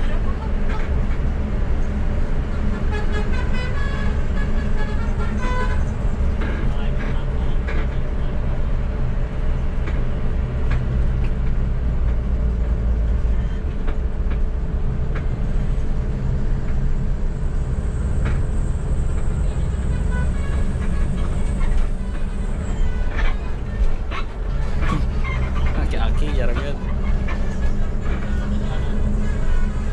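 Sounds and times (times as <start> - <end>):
bus diesel engine rumbling: 0.0 - 29.9.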